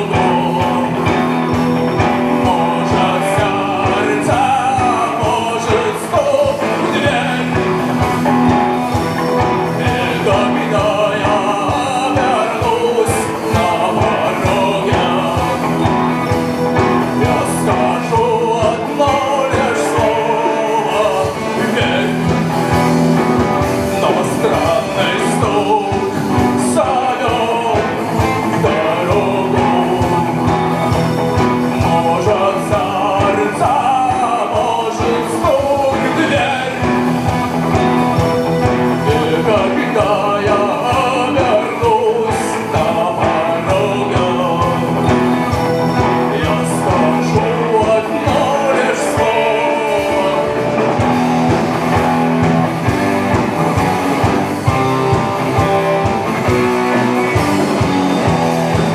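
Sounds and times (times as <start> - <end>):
person singing: 0.0 - 58.9
rock band playing: 0.0 - 58.9
steady drum beat: 0.0 - 58.9.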